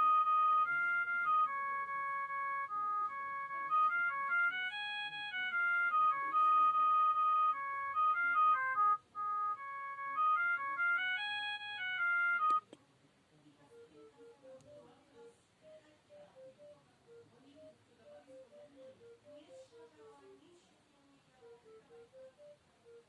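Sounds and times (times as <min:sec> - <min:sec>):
phone ringtone flute-like melody: 0:00.0 - 0:12.7, 0:13.7 - 0:20.4, 0:21.4 - 0:23.0
faint tune: 0:00.0 - 0:12.8, 0:13.6 - 0:23.0.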